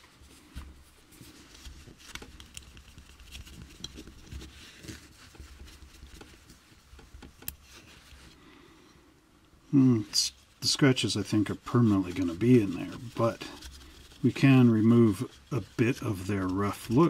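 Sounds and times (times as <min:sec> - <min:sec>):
cloth rubbing on plastic: 0:00.0 - 0:08.4, 0:09.8 - 0:17.0.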